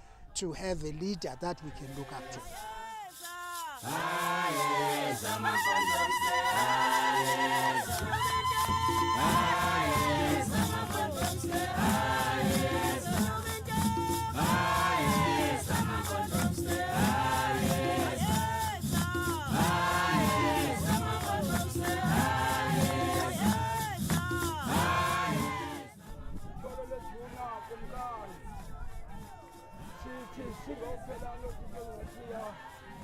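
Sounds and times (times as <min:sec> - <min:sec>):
group of voices singing: 0:00.0 - 0:33.0
steady beat with shaker percussion: 0:00.4 - 0:33.0.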